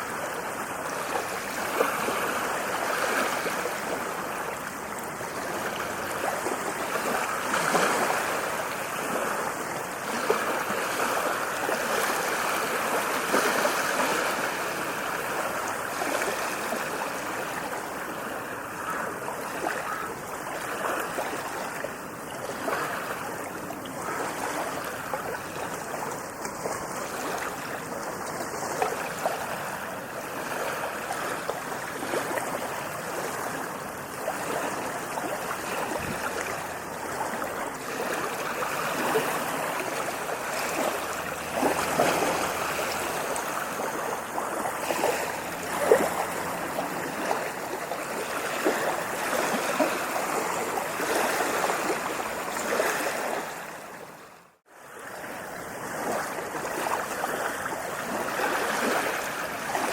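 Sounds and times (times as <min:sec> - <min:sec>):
ocean surf washing onto beach: 0:00.0 - 0:54.2.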